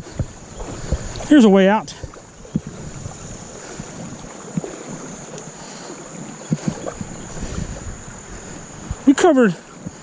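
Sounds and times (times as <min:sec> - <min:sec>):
splashes of person wading: 0:00.0 - 0:10.0
water running over rocks: 0:00.0 - 0:10.0.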